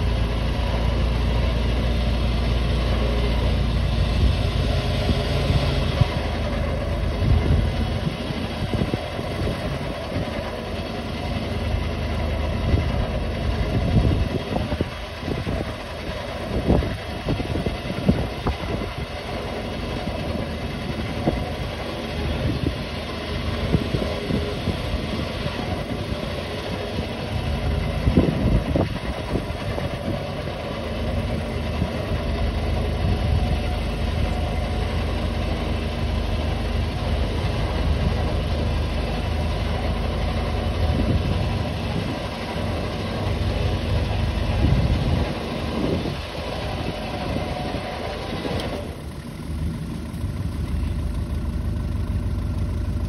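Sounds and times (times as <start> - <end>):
vehicle engine idling and revving: 0.0 - 53.0.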